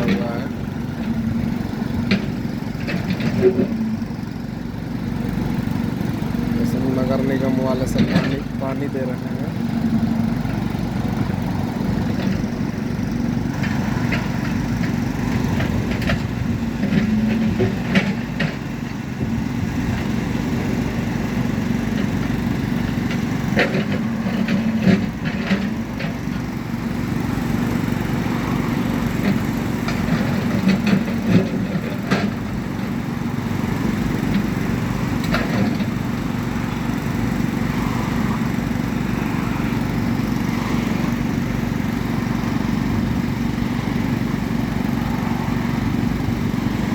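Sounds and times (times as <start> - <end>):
truck engine running: 0.0 - 46.9.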